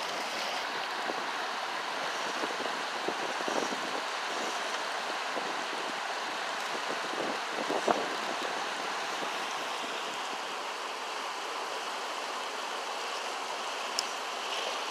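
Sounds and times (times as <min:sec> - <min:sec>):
river water rushing over rocks: 0:00.0 - 0:14.9.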